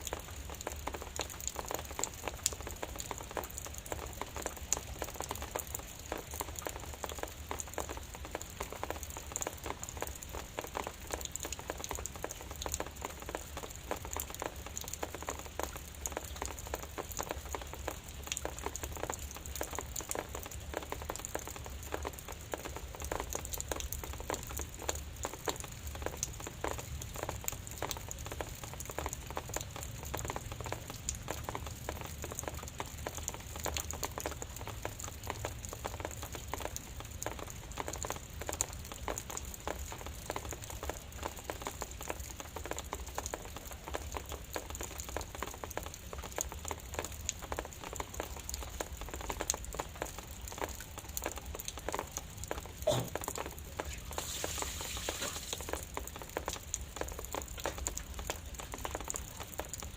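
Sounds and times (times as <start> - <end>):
light drizzle patter: 0.0 - 59.9.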